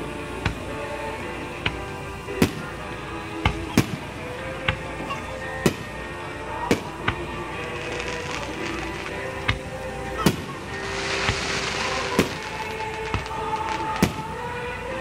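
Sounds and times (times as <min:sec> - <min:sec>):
background music: 0:00.0 - 0:15.0
firework shells bursting: 0:01.6 - 0:14.5.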